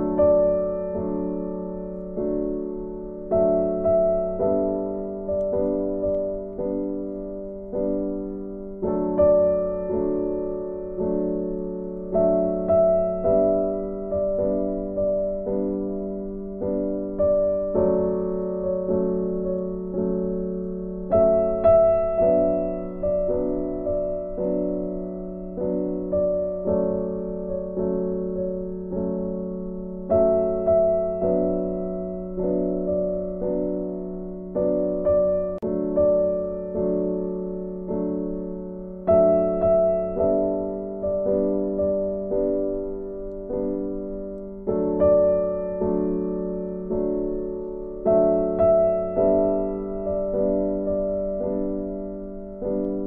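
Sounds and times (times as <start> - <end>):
gentle piano chords: 0.0 - 53.0.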